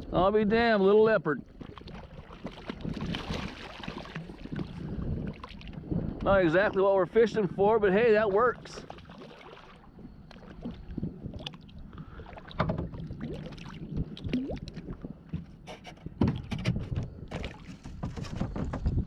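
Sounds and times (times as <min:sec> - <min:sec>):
knocks and thumps in kayak: 0:00.6 - 0:06.7, 0:08.6 - 0:19.0.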